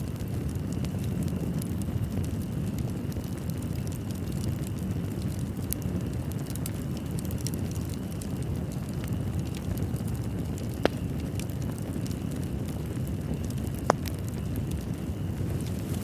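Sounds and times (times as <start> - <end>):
fire pops: 0.0 - 16.0
wood fire crackling: 0.0 - 16.0.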